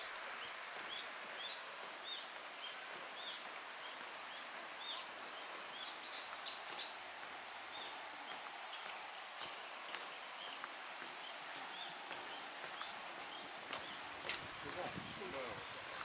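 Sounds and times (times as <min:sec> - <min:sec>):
outdoor background noise: 0:00.0 - 0:16.0
small birds chirping: 0:00.0 - 0:16.0.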